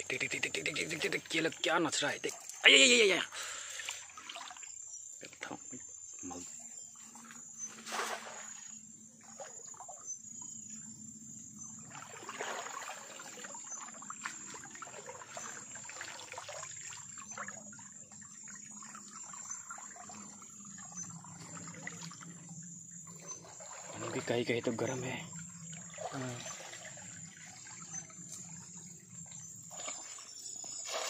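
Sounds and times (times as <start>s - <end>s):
river water splashing: 0.0s - 10.9s, 11.6s - 31.0s
crickets trilling: 0.0s - 31.0s.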